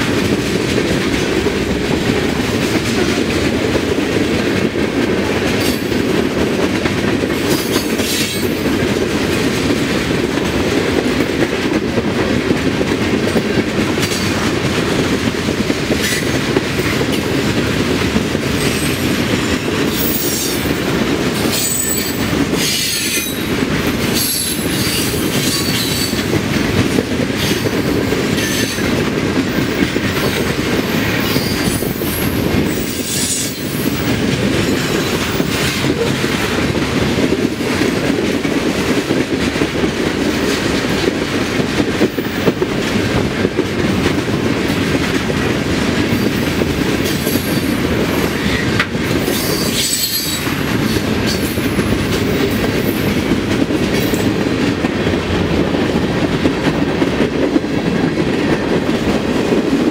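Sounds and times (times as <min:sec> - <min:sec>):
steel wheels rolling on rail: 0:00.0 - 0:59.9.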